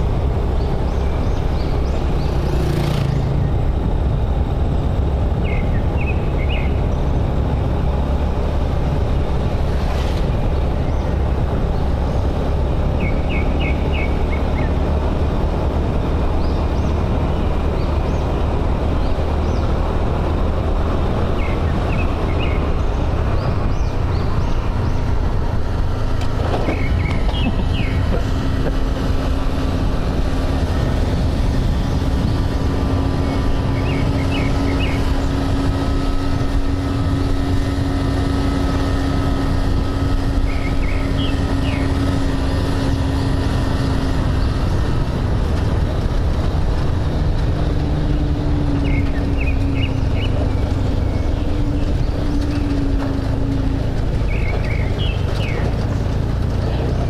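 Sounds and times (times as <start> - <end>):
motorbike engine cruising: 0.0 - 57.0
wind rushing on microphone: 0.0 - 57.0.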